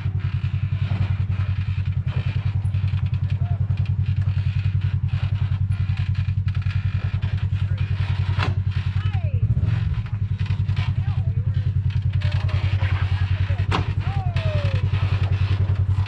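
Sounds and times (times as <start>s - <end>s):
engine rumbling at low revs: 0.0s - 16.0s
light knocks and rattles: 0.1s - 9.0s, 9.6s - 16.0s.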